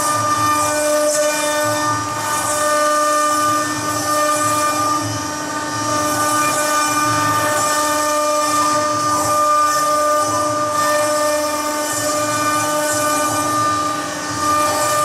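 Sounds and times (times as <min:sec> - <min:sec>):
cutter hissing on marble: 0:00.0 - 0:15.0.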